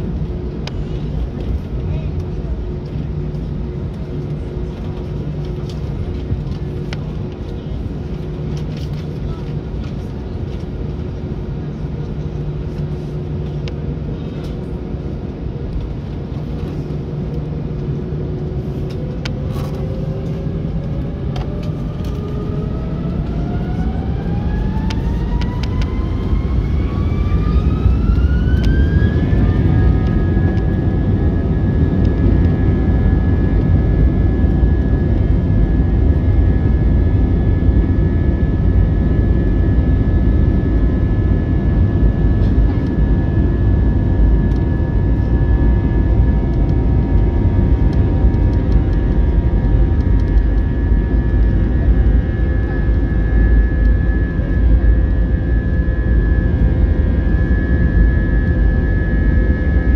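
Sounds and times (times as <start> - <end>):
jet engines whining: 0.0 - 59.9
low rumble: 0.0 - 59.9.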